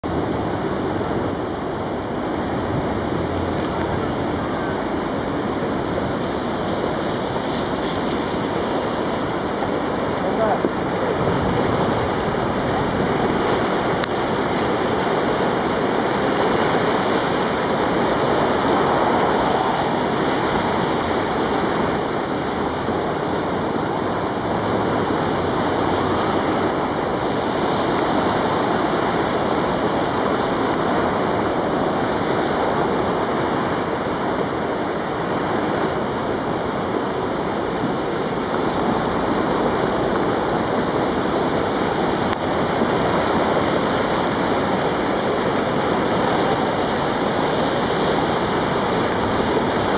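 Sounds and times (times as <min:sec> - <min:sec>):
creek rushing whitewater: 0:00.0 - 0:49.9.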